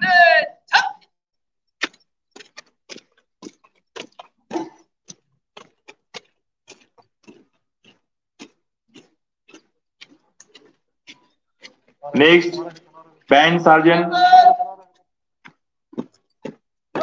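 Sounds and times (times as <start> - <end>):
boots marching on ground: 1.8 - 17.0.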